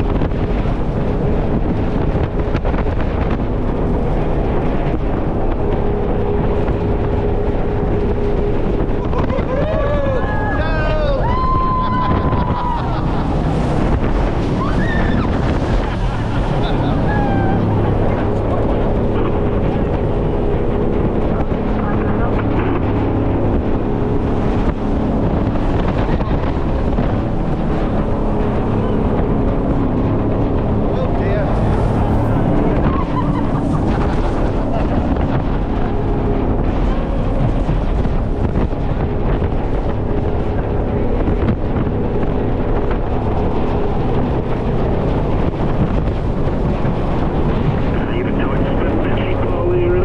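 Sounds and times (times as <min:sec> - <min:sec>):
jet boat engine drone: 0:00.0 - 0:50.0
wind buffeting microphone: 0:00.0 - 0:50.0.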